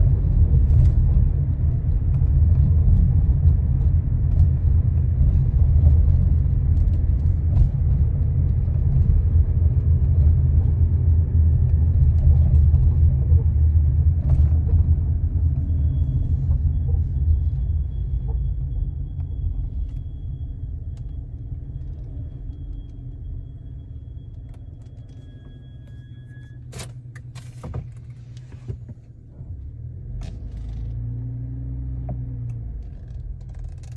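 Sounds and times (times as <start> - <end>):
pickup truck low rumble: 0.0 - 33.9.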